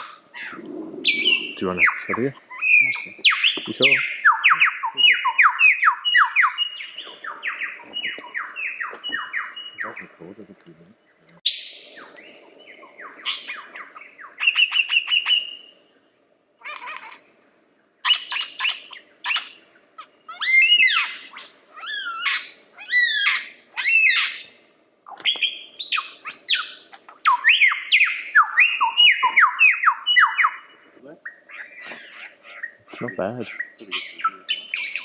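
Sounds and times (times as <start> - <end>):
lyrebird singing: 0.0 - 17.3, 18.0 - 35.0.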